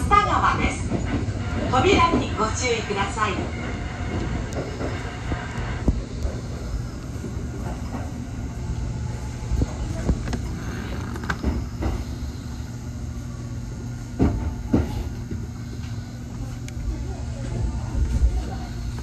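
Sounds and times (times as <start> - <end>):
electric train hum: 0.0 - 19.0.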